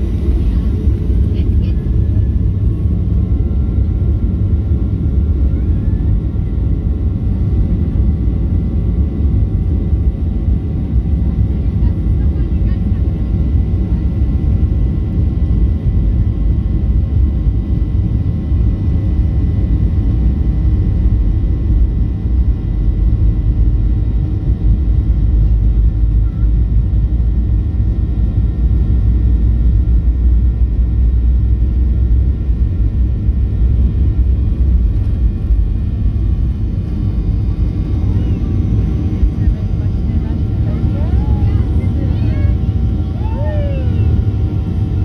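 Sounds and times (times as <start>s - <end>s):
faint whine: 0.0s - 12.8s, 20.9s - 45.0s
airplane engine rumble: 0.0s - 45.0s.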